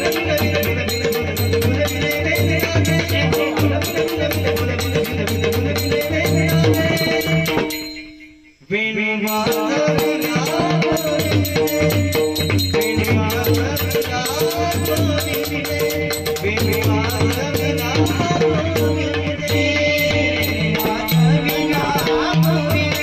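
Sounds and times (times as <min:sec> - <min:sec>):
hand drum: 0:00.0 - 0:07.8, 0:09.6 - 0:23.0
metallic percussion beats: 0:00.0 - 0:08.6, 0:09.3 - 0:23.0.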